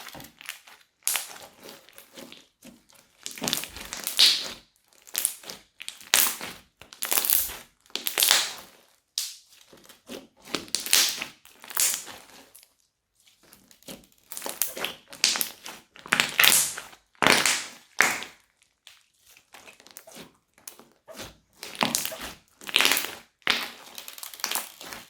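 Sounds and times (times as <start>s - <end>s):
crunchy slime crackling: 0.0s - 25.0s.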